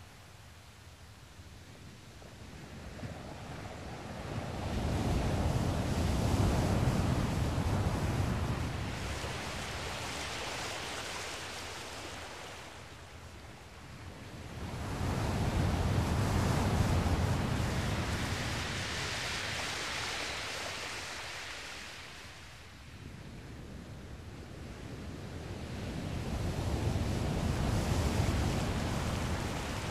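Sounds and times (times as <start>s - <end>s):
waves washing in shallows: 2.1s - 29.9s.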